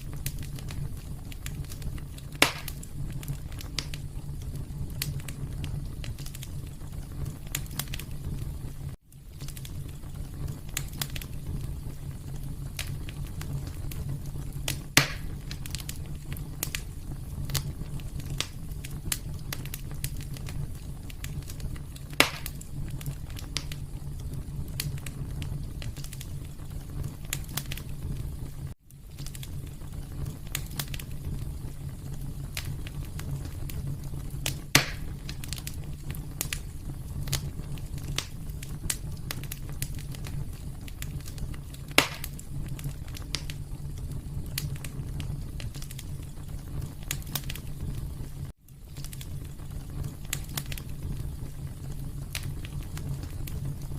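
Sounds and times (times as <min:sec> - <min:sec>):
fire crackling in fireplace: 0:00.0 - 0:53.9.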